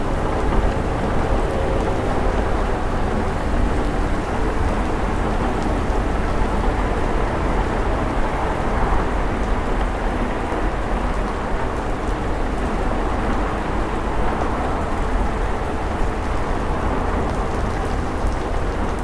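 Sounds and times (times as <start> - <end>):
rain falling on a car: 0.0 - 19.0.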